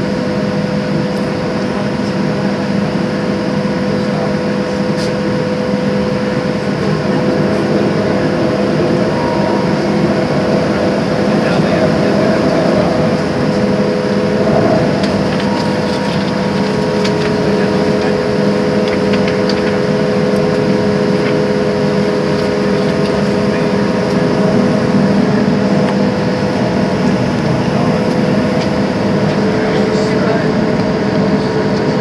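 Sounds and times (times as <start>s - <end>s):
jet engines idling: 0.0s - 32.0s
cabin air noise: 4.6s - 32.0s.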